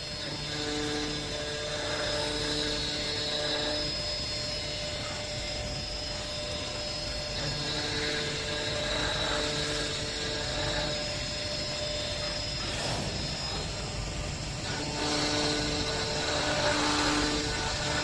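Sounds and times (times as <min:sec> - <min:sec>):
mechanical drone: 0:00.0 - 0:18.0
router spindle whine: 0:00.0 - 0:18.0.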